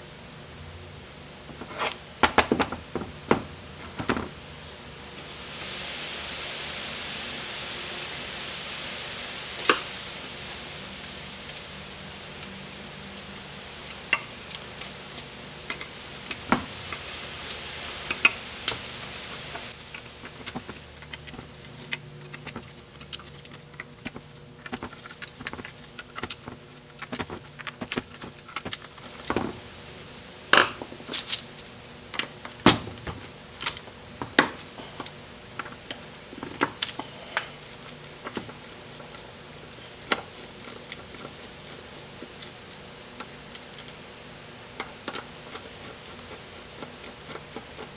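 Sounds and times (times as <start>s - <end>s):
soft hiss: 0.0s - 21.9s, 29.0s - 47.9s.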